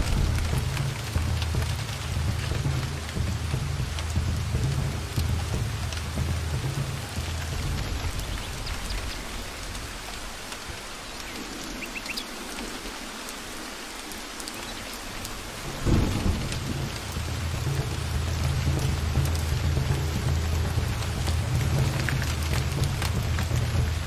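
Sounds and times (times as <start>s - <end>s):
thunderclap: 0.0s - 10.8s, 15.1s - 24.0s
low rolling thunder: 0.0s - 11.8s, 15.1s - 24.0s
steady rain: 0.0s - 24.0s.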